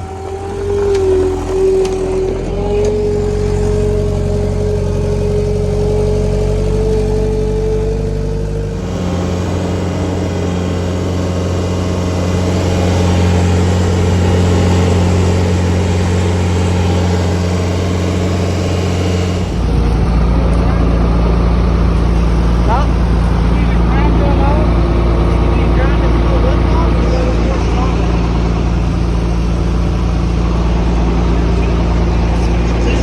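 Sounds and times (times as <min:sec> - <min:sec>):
engine running with whine: 0:00.0 - 0:33.0.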